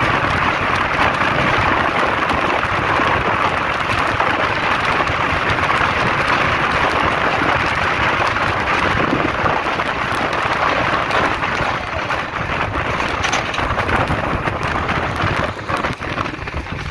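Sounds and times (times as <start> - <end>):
train coaches rumbling and rattling: 0.0 - 16.9
rushing air: 1.2 - 16.9.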